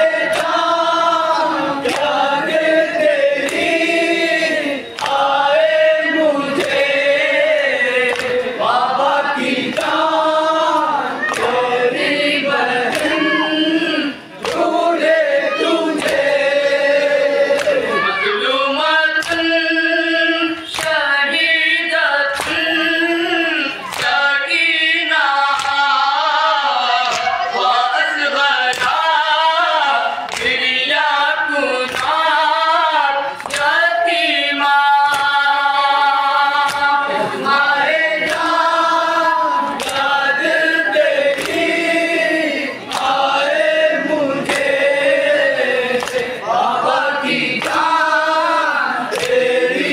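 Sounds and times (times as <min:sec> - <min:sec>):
group of voices singing: 0:00.0 - 0:49.9
lead voice singing lament: 0:00.0 - 0:49.9.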